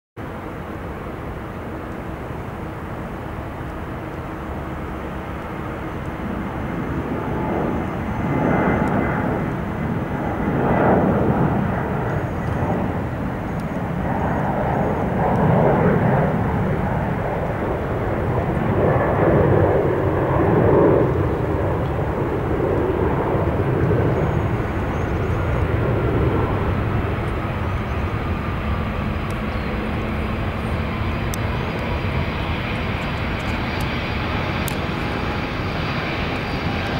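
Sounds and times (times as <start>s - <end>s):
jet engines roaring: 0.2s - 36.9s.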